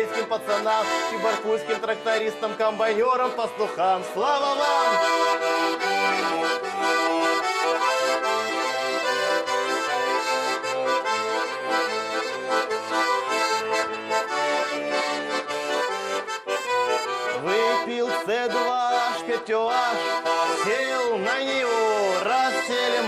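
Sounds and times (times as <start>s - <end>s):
accordion lead: 0.0s - 23.0s.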